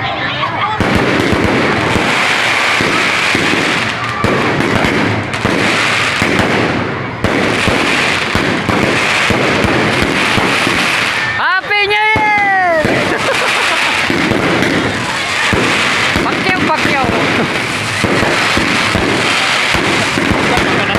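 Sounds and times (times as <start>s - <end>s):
fireworks crackling and banging: 0.0s - 20.9s.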